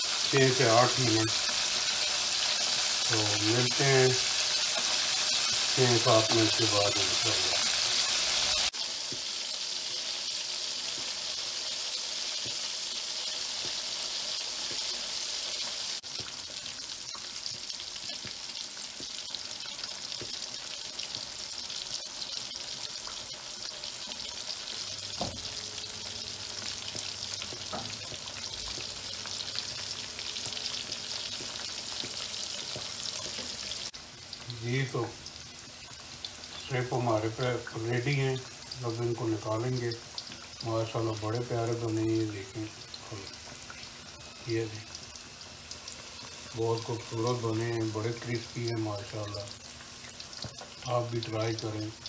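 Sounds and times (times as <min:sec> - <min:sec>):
chicken deep-frying in oil: 0:00.0 - 0:52.0.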